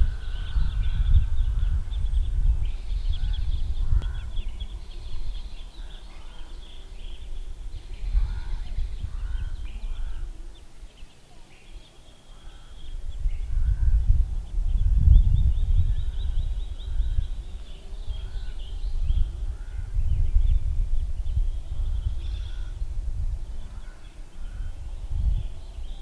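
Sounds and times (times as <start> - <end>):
birds chirping and calling: 0.0 - 26.0
wind gusting on microphone: 0.0 - 26.0.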